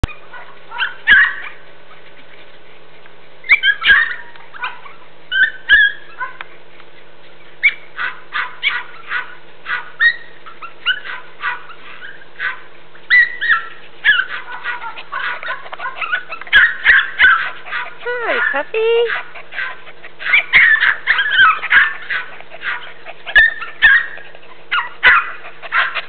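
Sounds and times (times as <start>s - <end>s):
puppies yipping and barking: 0.0s - 26.0s.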